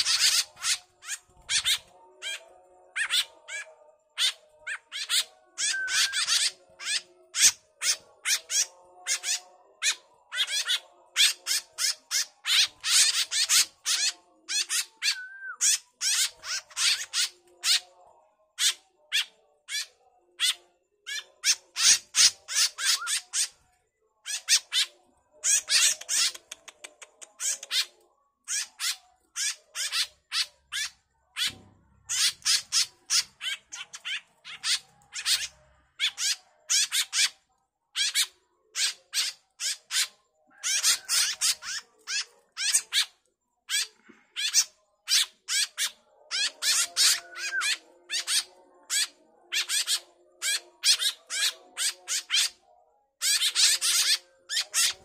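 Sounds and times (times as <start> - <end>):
fledgling birds begging calls: 0.0 - 17.8, 18.6 - 23.6, 27.4 - 37.3, 38.0 - 43.1, 43.7 - 52.6, 53.2 - 55.0.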